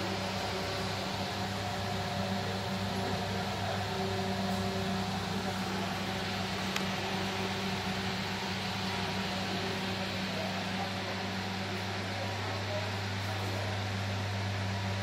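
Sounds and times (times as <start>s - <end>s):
ceiling fans humming: 0.0s - 15.0s.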